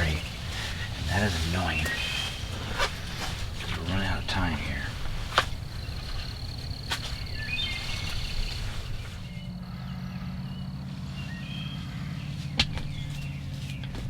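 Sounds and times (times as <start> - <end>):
insect-like buzz: 0.0 - 13.3
faint bird chirps: 0.0 - 14.0
low steady hum: 0.0 - 14.0.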